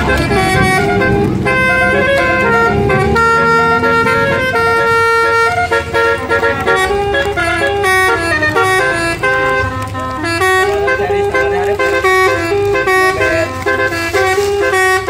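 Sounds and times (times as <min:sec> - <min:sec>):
multi-tone air horn playing a tune: 0:00.0 - 0:15.0.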